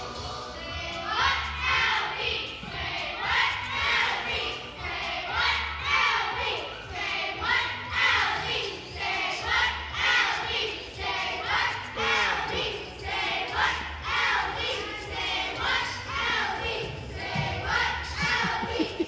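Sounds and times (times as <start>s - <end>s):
girls chanting a cheer: 0.6s - 19.0s.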